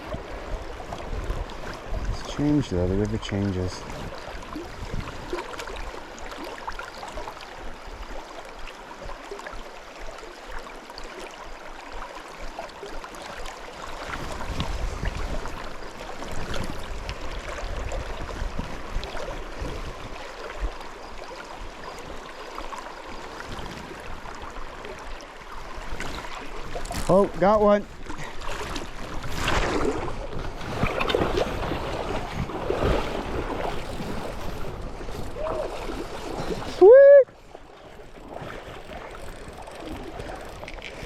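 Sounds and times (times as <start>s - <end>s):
river current splashing against raft: 0.0s - 41.0s.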